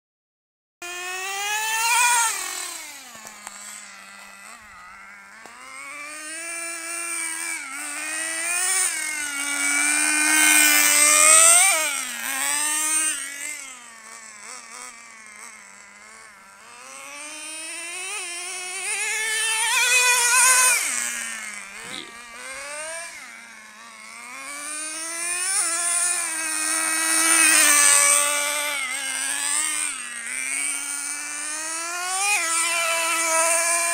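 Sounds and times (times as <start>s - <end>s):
toy car motor whining: 0.8s - 33.9s.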